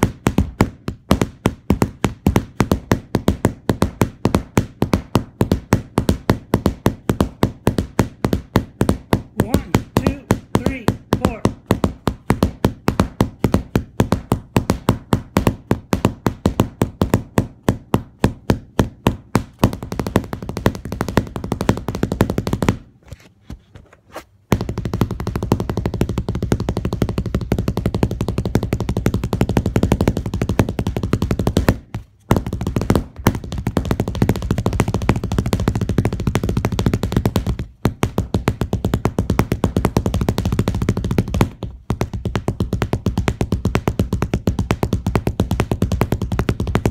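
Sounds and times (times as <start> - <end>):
stick knocking rapidly: 0.0 - 22.9, 24.5 - 46.9.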